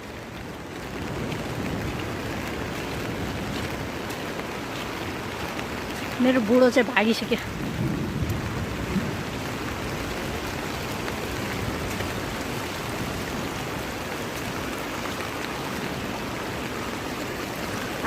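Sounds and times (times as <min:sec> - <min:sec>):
heavy rain: 0:00.0 - 0:18.0
rushing water: 0:00.0 - 0:18.0.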